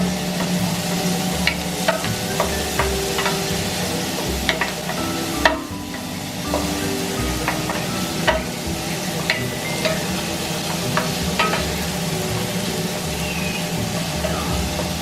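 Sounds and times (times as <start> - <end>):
food sizzling in a pan: 0.0 - 15.0
metal utensil clinking on pan: 0.4 - 12.9.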